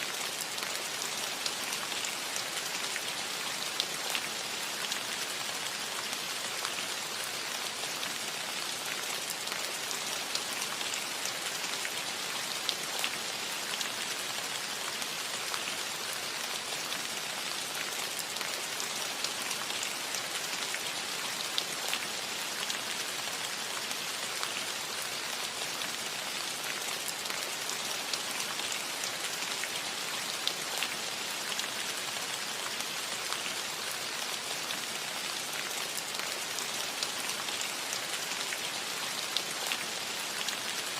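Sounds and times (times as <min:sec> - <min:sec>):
rain falling on a roof: 0:00.0 - 0:40.9.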